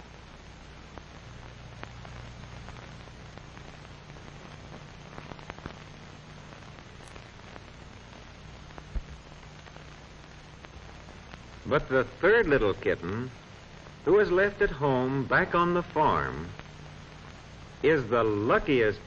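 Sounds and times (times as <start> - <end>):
crackles and clicks: 0.0 - 19.0
film soundtrack hiss: 0.0 - 19.0.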